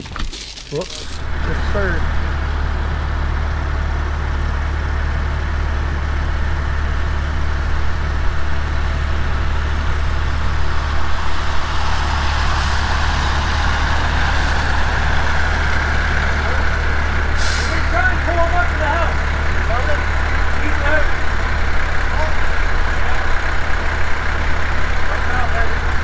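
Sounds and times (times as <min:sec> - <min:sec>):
diesel engine running: 0:00.9 - 0:26.0.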